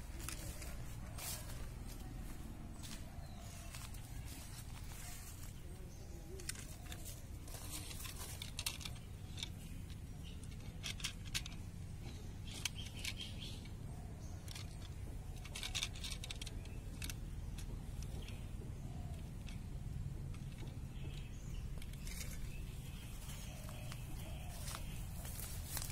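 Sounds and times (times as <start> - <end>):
steady low rumble: 0.0 - 25.9
toy handled among leaves: 0.0 - 25.9.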